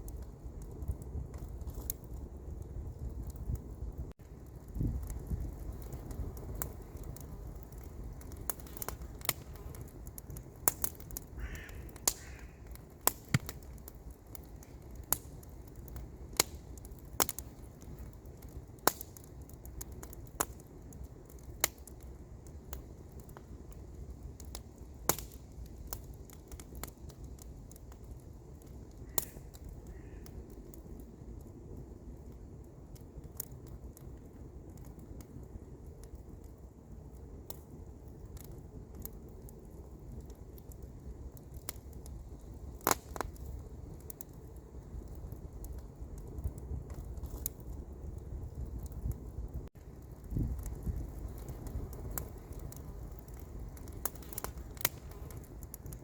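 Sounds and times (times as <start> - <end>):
campfire wood crackling: 0.0 - 56.0.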